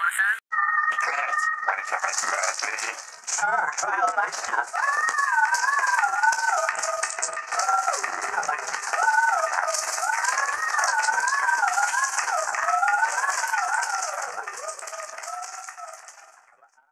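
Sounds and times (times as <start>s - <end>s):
wavering gliding melody: 1.0s - 16.6s
shaker rattle: 1.9s - 16.5s.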